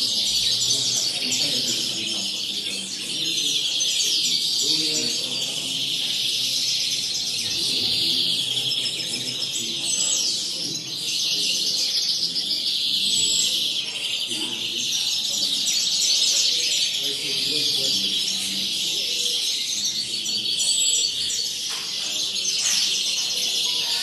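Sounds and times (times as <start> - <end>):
finches twittering: 0.0 - 24.0.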